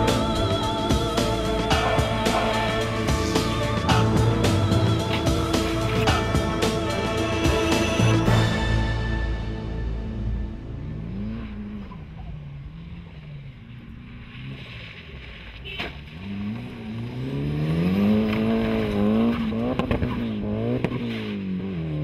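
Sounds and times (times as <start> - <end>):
rally car engine revving: 0.0 - 9.2, 10.0 - 22.0.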